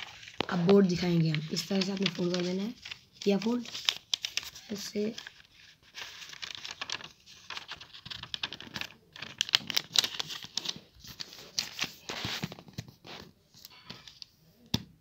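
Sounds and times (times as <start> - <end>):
paper rustling and crackling: 0.0 - 14.3.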